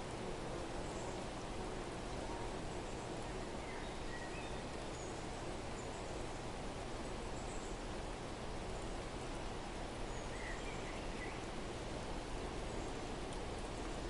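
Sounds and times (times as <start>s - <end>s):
outdoor background hiss: 0.0s - 14.0s
small birds chirping: 0.0s - 14.0s.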